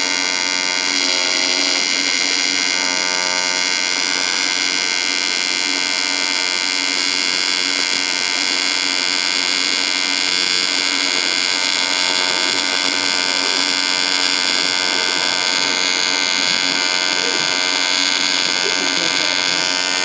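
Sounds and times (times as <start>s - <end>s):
welding arc buzzing: 0.0s - 20.0s.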